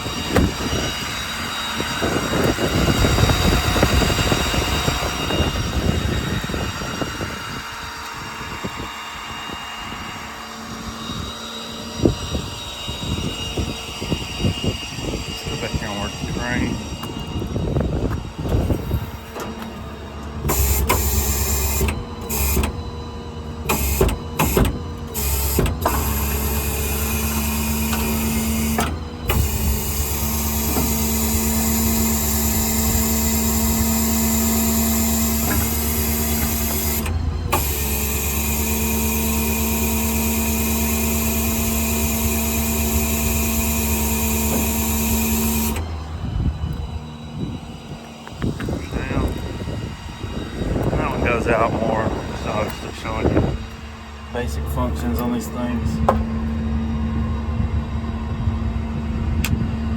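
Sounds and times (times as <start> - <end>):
motor equipment humming: 0.0 - 59.9.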